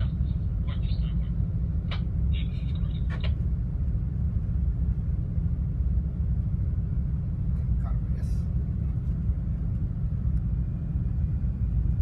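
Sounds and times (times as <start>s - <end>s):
ship engine low rumble: 0.0s - 12.0s.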